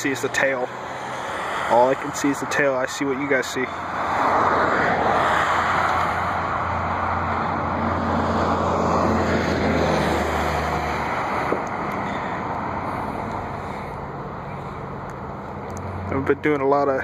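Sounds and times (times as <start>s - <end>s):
jet engines rumbling: 0.0s - 16.5s.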